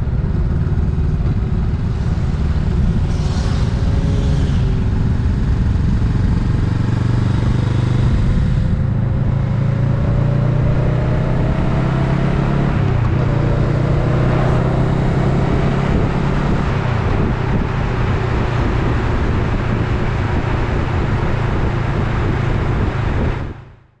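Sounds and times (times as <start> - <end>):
motorcycle engine running: 0.0 - 23.7
wind noise on microphone: 0.0 - 23.8.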